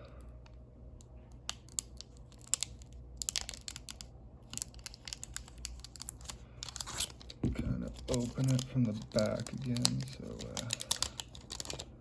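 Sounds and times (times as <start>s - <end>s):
foil wrapper crinkling and tearing: 1.5s - 11.9s.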